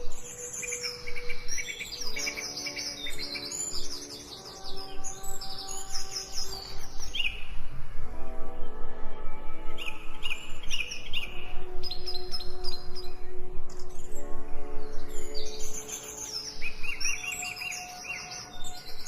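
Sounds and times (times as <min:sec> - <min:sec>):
soft music of held chords: 0:00.0 - 0:19.0
songbirds chirping and trilling: 0:00.0 - 0:19.0.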